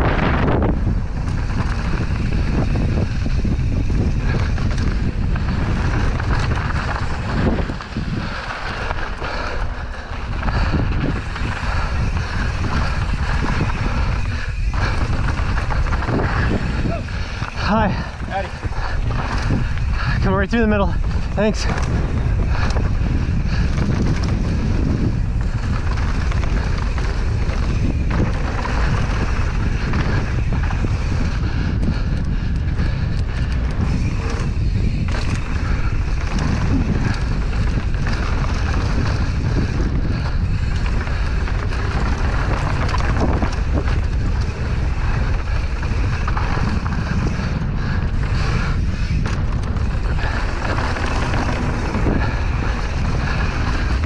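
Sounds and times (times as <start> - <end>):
bike rattling over bumps: 0.0 - 54.0
wind buffeting microphone: 0.0 - 54.0.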